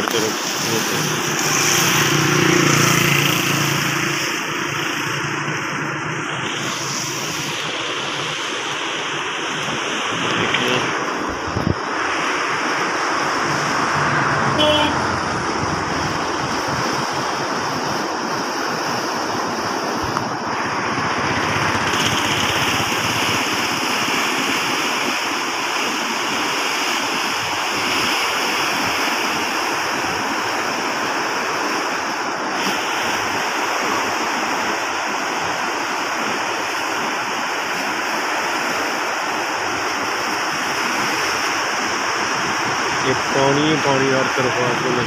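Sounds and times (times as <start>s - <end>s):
floodwater rushing and churning: 0.0s - 45.0s.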